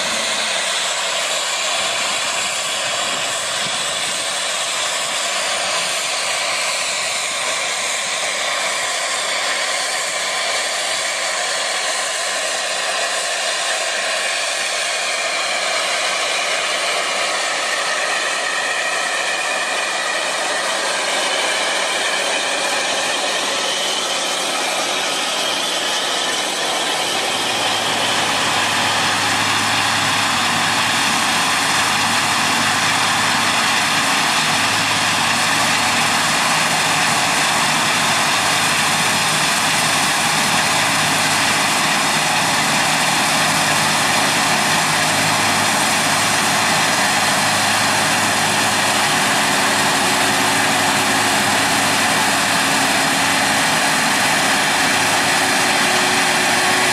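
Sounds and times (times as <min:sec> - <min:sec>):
combine harvester running: 0:00.0 - 0:56.9
tractor pulling planter: 0:00.0 - 0:56.9.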